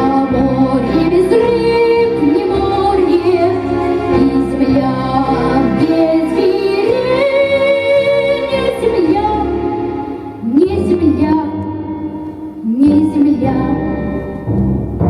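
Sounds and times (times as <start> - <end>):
girl singing: 0.0 - 9.7, 10.4 - 14.0
instrumental backing track: 0.0 - 15.0.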